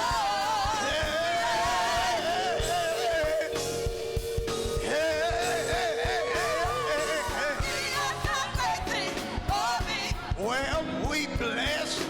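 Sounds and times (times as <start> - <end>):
instrumental accompaniment with beat: 0.0 - 12.0
person singing gospel song: 0.0 - 12.0.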